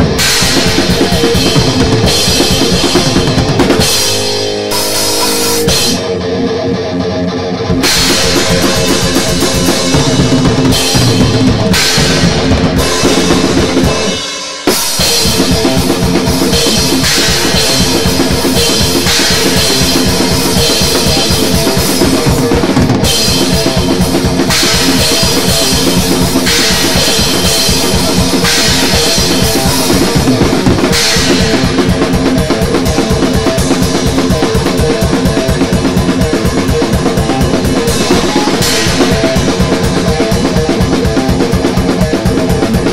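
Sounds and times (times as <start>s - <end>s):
rapid drumming: 0.0s - 6.4s, 7.5s - 42.9s
electric guitar riffing: 0.0s - 42.9s.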